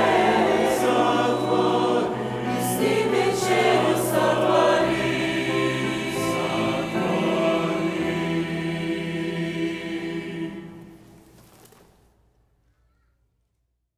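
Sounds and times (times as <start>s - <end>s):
choir singing a hymn: 0.0s - 11.4s.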